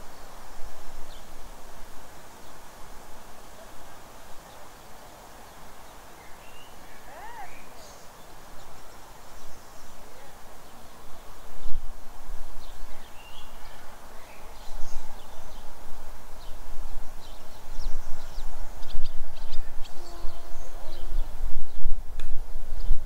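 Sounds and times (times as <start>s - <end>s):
wind gusting on microphone: 0.0s - 23.0s
small birds chirping: 2.3s - 21.9s.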